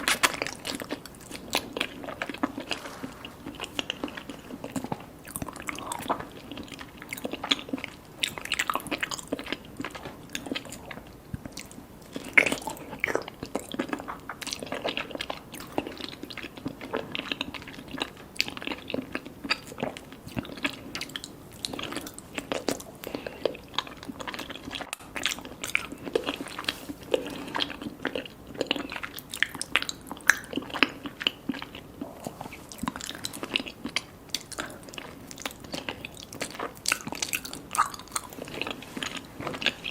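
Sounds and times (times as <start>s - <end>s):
person chewing soft food: 0.0s - 39.9s.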